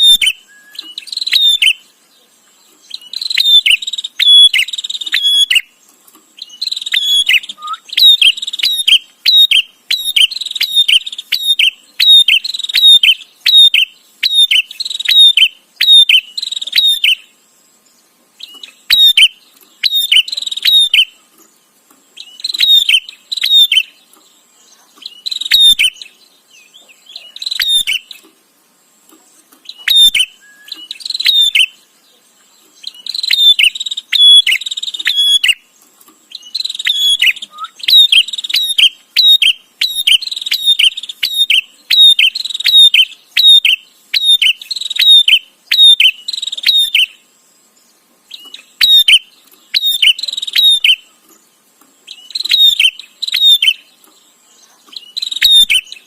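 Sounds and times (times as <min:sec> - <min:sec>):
bird scolding chirps: 0:00.0 - 0:17.4, 0:18.4 - 0:28.4, 0:29.0 - 0:47.3, 0:48.3 - 0:56.0.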